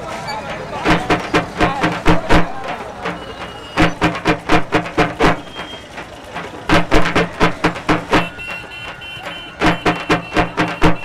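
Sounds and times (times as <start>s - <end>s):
street and traffic noise: 0.0s - 11.0s
quick drum strokes: 0.6s - 11.0s.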